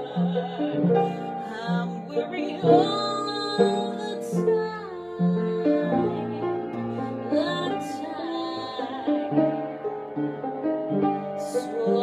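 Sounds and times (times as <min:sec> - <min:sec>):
woman singing a slow ballad: 0:00.0 - 0:09.5, 0:11.4 - 0:12.0
instrumental accompaniment: 0:00.0 - 0:12.0.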